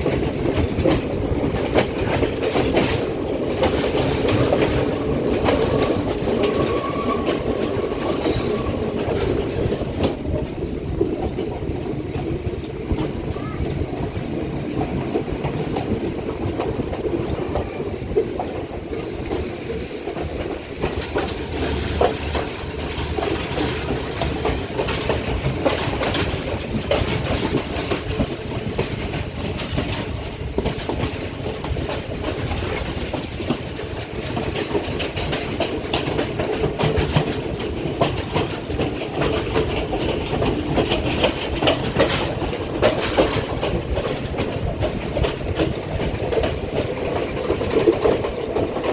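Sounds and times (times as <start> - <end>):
train rumble: 0.0 - 48.9
train wheels clattering over rail joints: 0.0 - 48.9.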